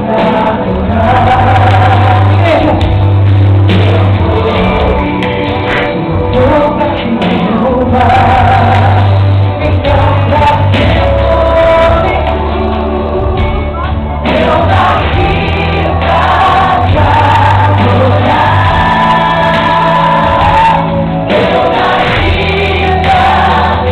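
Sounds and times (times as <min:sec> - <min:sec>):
woman singing into microphone: 0:00.0 - 0:03.1, 0:03.7 - 0:13.4, 0:14.2 - 0:23.9
amplified music with heavy bass: 0:00.0 - 0:23.9.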